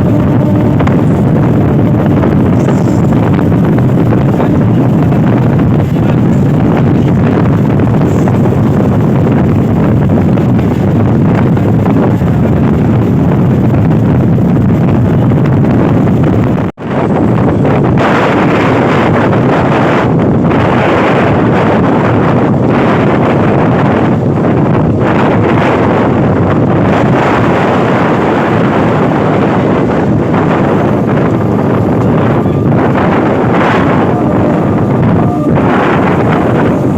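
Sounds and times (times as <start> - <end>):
train rumbling at speed: 0.0 - 36.9
wind buffeting microphone: 0.0 - 36.9.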